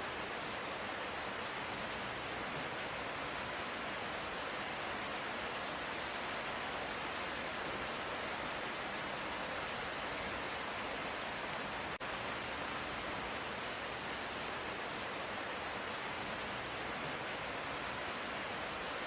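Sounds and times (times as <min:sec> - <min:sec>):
steady light rain: 0:00.0 - 0:19.0.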